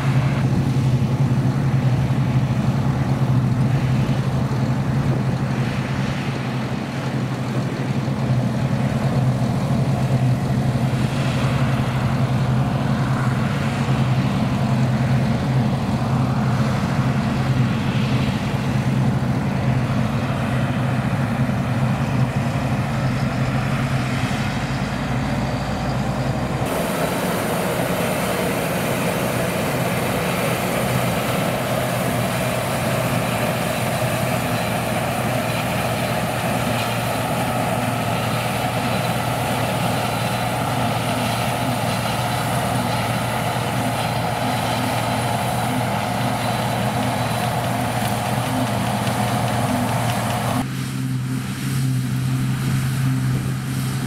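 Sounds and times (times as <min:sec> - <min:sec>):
combine harvester engine hum: 0:00.0 - 0:54.0
rushing hiss of threshing: 0:00.0 - 0:54.0.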